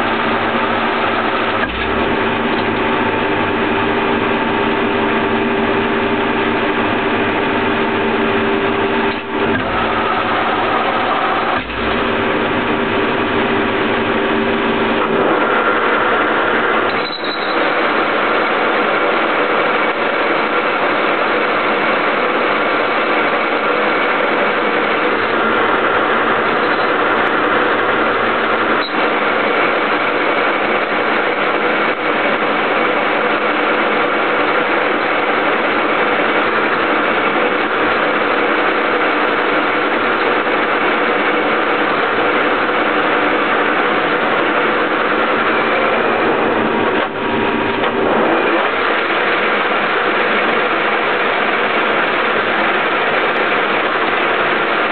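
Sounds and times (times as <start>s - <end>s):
lathe whining while cutting steel: 0.0s - 54.9s.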